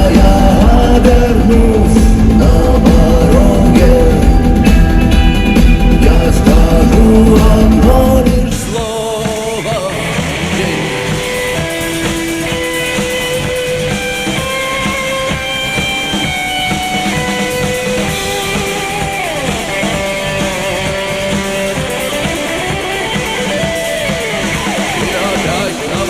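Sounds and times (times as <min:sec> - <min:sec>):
guitar melody: 0:00.0 - 0:08.8, 0:09.4 - 0:26.0
drum kit: 0:00.0 - 0:26.0.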